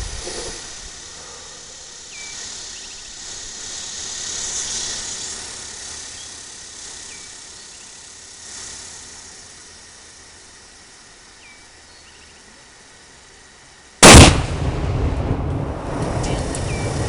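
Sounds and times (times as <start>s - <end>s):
soft rushing hiss: 0.0s - 17.0s.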